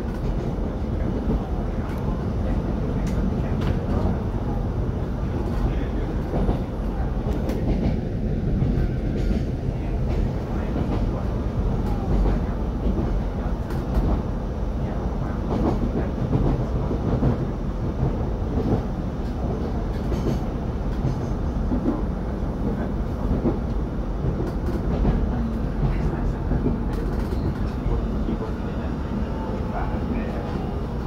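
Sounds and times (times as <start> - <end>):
train carriage humming: 0.0 - 31.0
train wheels rolling on rails: 0.0 - 31.0.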